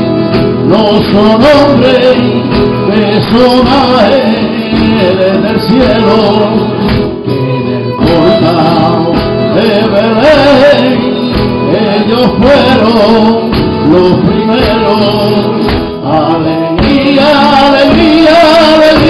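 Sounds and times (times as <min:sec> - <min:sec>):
flamenco guitars strumming: 0:00.0 - 0:19.0
violin wavering melody: 0:02.0 - 0:19.0.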